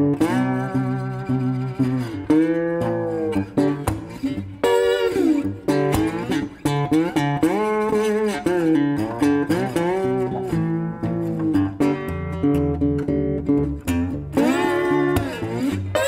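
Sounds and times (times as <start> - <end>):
plucked guitar with bending notes: 0.0 - 16.0.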